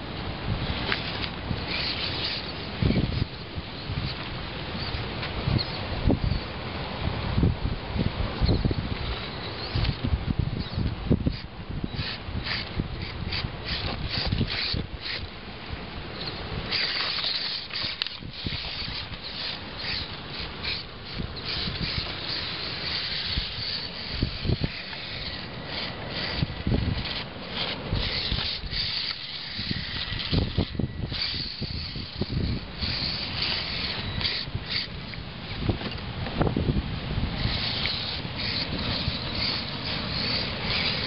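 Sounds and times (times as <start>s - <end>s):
wind rumble on microphone: 0.0s - 16.8s, 17.4s - 41.0s
small electric motor whining: 0.6s - 6.4s, 8.4s - 15.4s, 16.2s - 36.0s, 37.3s - 41.0s.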